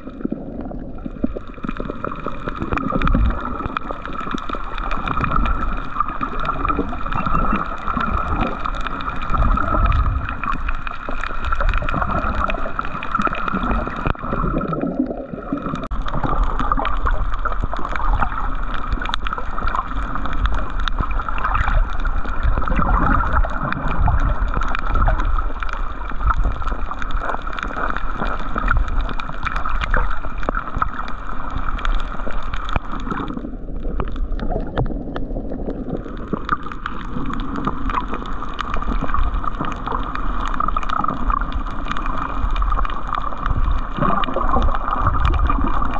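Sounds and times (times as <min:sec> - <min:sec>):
fine crackling underwater: 0:00.0 - 0:45.9
gurgling water: 0:00.0 - 0:45.9.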